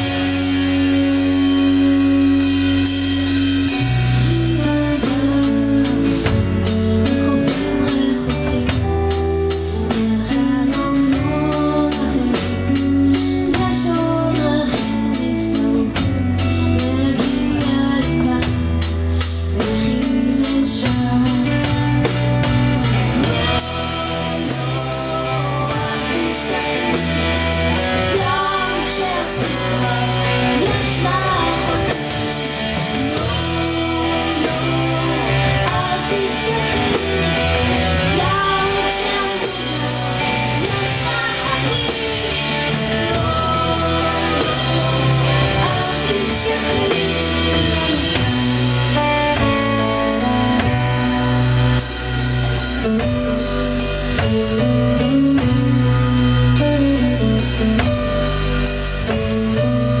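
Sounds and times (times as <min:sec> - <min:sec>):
bass guitar: 0:00.0 - 1:00.0
drum kit beat: 0:00.0 - 1:00.0
electric guitar: 0:00.0 - 1:00.0.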